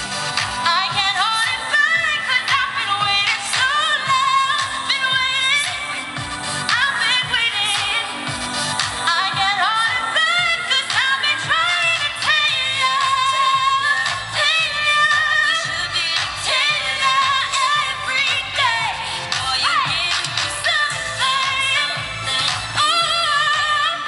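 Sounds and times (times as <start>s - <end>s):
backing music over speakers: 0.0s - 24.0s
woman singing pop song: 0.0s - 24.0s.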